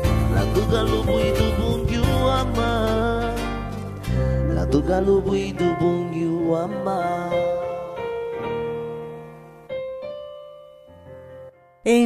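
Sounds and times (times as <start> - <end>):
music with held notes: 0.0 - 11.5.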